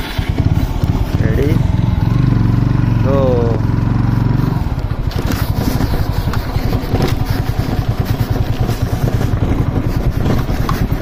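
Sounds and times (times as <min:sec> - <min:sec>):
motorcycle engine running: 0:00.0 - 0:11.0
rattling on bumpy ground: 0:00.0 - 0:11.0.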